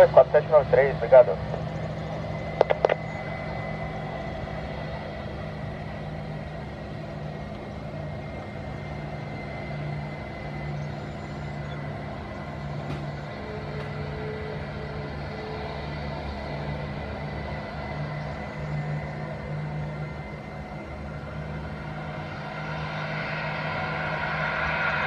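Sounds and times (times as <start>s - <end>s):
faint high engine whine: 0.0s - 25.0s
jet engines rumbling: 0.0s - 25.0s.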